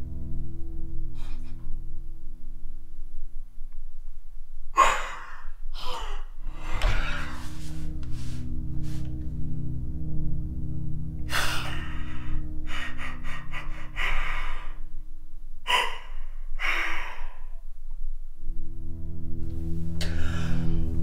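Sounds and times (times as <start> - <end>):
low droning music: 0.0 - 21.0.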